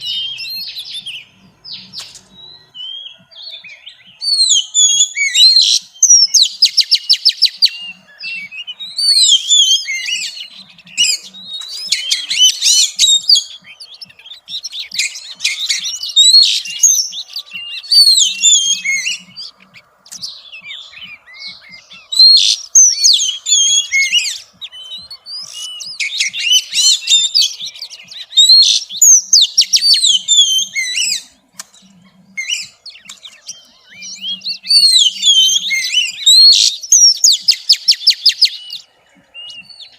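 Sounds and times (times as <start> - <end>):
bird singing whistled phrases: 0.0 - 31.3, 32.3 - 39.9.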